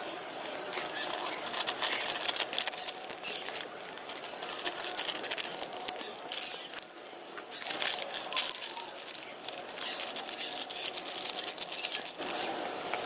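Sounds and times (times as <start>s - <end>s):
crinkling: 0.0s - 13.0s.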